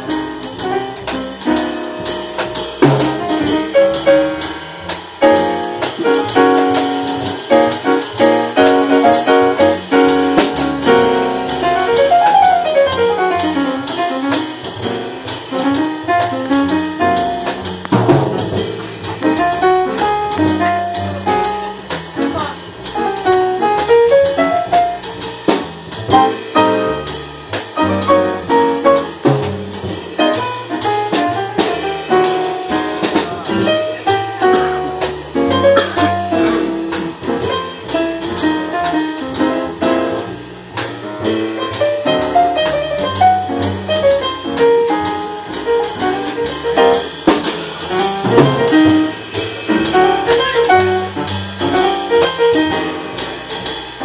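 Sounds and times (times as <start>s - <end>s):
double bass: 0.0s - 54.0s
upright piano: 0.0s - 54.0s.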